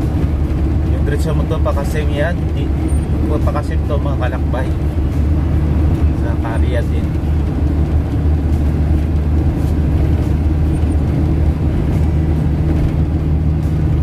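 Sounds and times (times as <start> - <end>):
vehicle engine and road drone: 0.0 - 14.0.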